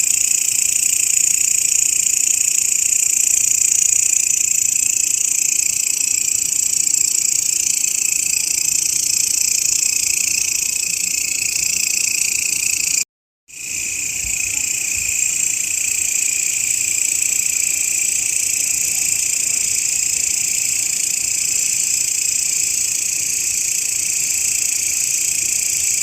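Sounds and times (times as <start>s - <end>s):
grasshopper stridulating buzz: 0.0s - 26.0s.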